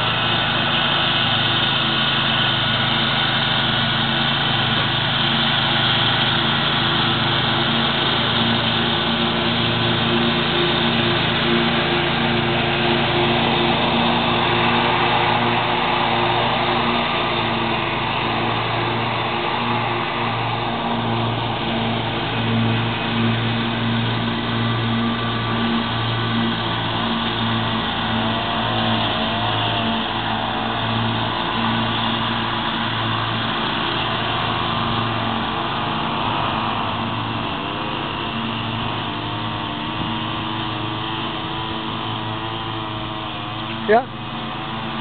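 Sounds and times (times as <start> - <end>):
faint engine wavering in pitch: 0.0 - 45.0
lawn mower engine humming: 0.0 - 45.0.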